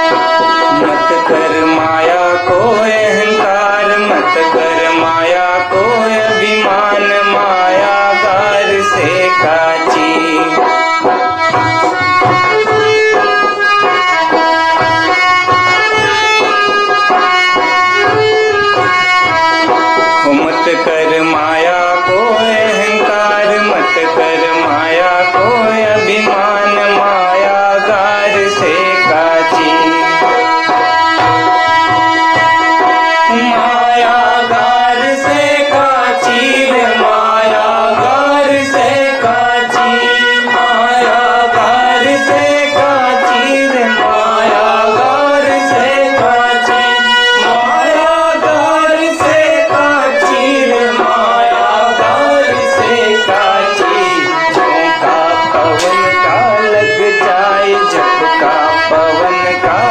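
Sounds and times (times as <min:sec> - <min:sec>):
tabla beat: 0:00.0 - 0:59.9.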